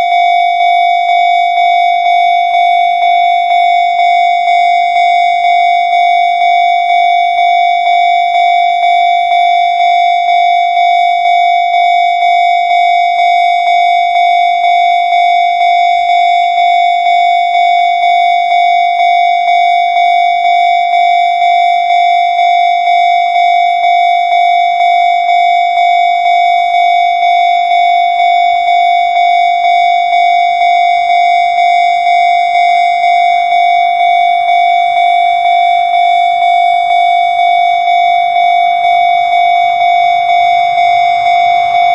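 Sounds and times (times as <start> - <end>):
level crossing warning bell: 0.0 - 41.9.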